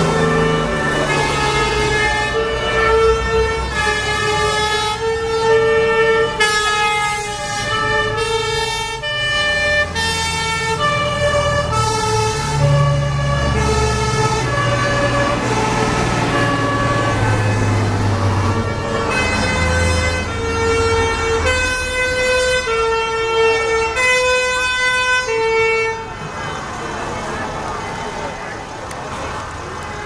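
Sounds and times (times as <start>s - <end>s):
two-tone emergency sirens: 0.0s - 26.7s
heavy truck engine rumble: 0.0s - 30.0s.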